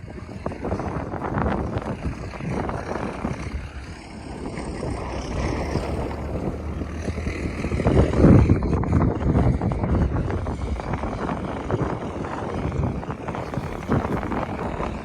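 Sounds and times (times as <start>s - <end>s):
boat engine running: 0.0s - 15.0s
rushing noise: 0.0s - 15.0s.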